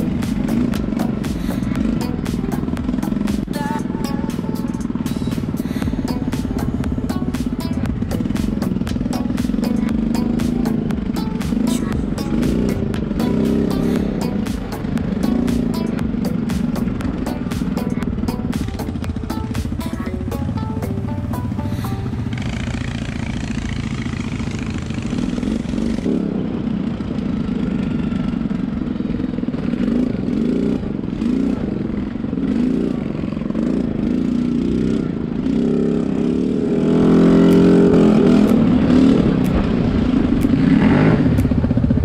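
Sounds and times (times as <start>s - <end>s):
quad bike engine revving: 0.0s - 42.0s.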